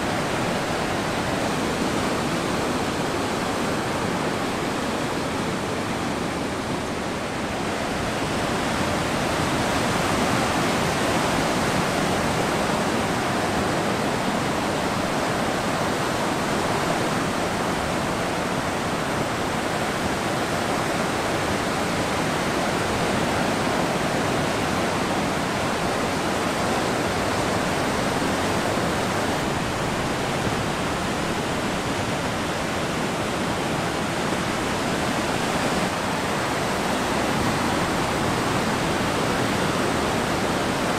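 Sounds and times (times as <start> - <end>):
ocean surf breaking: 0.0 - 40.9.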